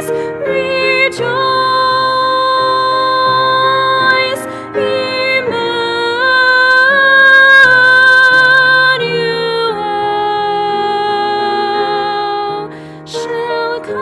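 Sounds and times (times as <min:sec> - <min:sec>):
woman singing a carol: 0:00.0 - 0:14.0.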